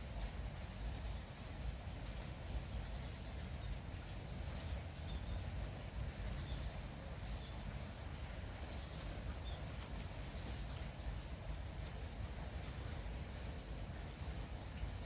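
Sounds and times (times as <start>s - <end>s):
light steady rain: 0.0s - 15.0s.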